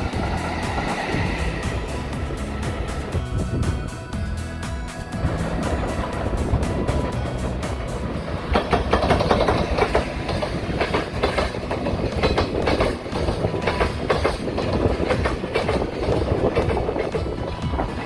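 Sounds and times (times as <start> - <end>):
train wheels clattering: 0.0 - 4.0, 5.0 - 18.0
train low rumble: 0.0 - 18.0.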